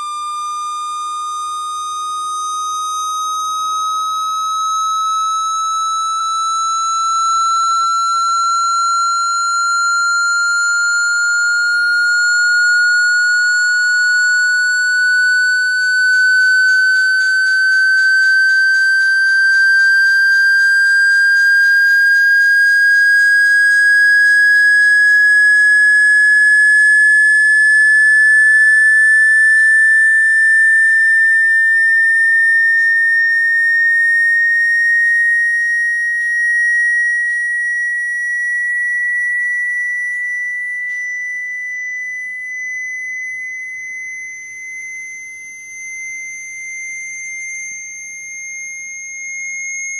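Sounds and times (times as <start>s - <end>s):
rising sine tone: 0.0s - 49.9s.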